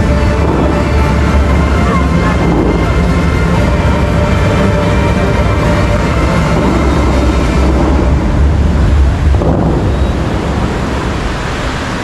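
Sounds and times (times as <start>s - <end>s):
music: 0.0s - 10.3s
water jets rushing and splashing: 0.0s - 12.0s.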